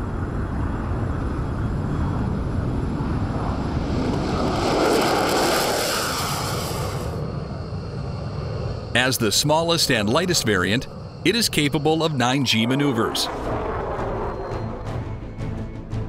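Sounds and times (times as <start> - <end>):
fighter jet engine rumble: 0.0 - 16.0.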